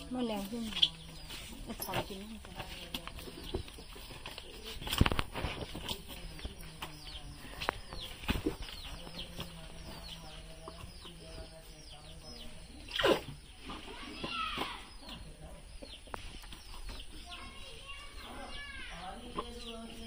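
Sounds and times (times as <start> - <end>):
chickens peeping and clucking: 0.0 - 20.0.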